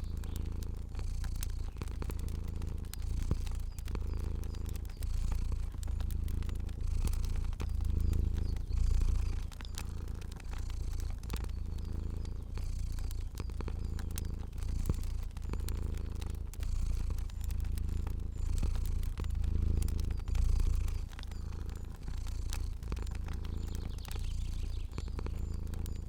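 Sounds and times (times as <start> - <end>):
cat purring: 0.0 - 26.0
fire crackling: 0.0 - 26.0.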